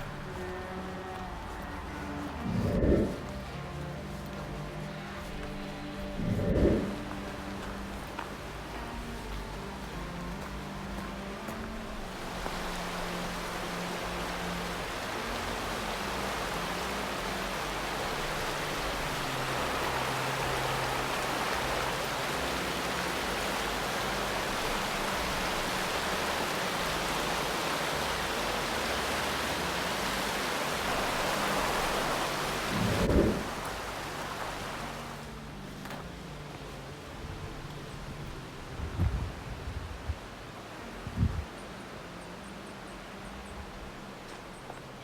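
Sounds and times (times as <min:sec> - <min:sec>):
rushing water roar: 0:00.0 - 0:45.0.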